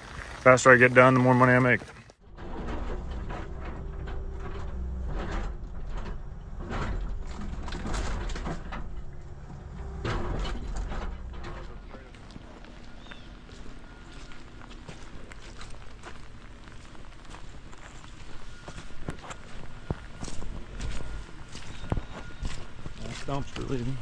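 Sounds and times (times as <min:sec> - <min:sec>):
excavator engine running: 0:00.0 - 0:24.0
rubble scraping and clunking: 0:00.0 - 0:24.0.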